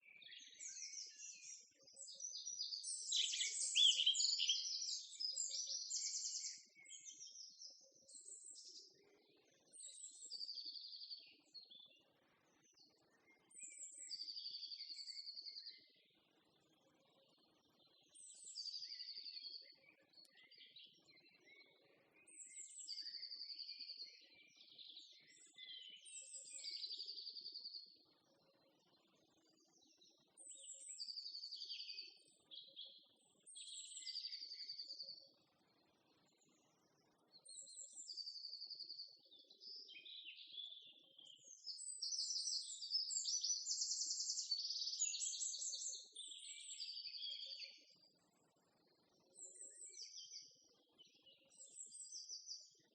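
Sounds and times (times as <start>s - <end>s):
songbirds singing trills: 0.0s - 52.9s.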